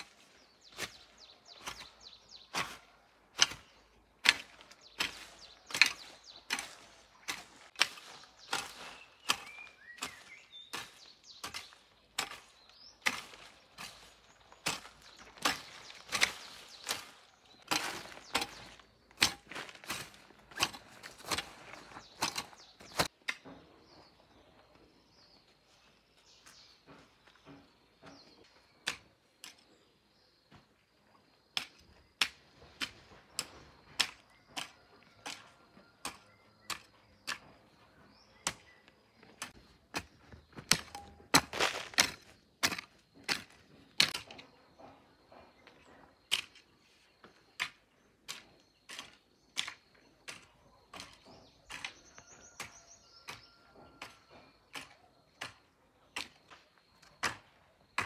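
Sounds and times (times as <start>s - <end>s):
hoe chopping soil: 0.0s - 24.0s, 26.2s - 30.7s, 31.4s - 58.0s.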